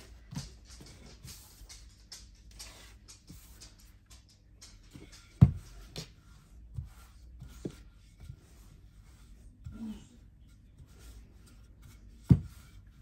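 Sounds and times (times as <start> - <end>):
rolling pin rubbing dough: 0.0 - 13.0.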